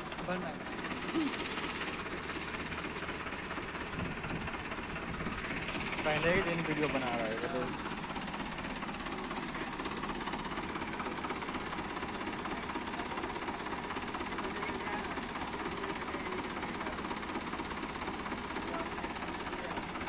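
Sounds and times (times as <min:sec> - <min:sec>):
forklift engine rattling: 0:00.0 - 0:20.0.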